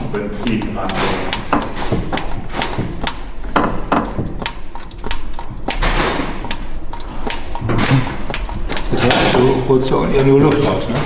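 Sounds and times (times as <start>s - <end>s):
fuel pump lever clicking: 0.0s - 10.9s.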